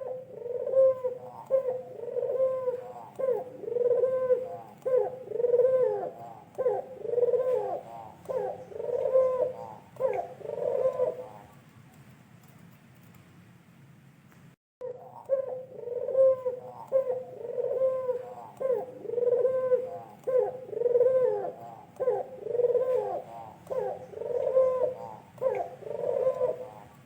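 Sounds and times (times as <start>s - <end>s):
dove cooing: 0.0s - 11.6s, 14.8s - 27.0s.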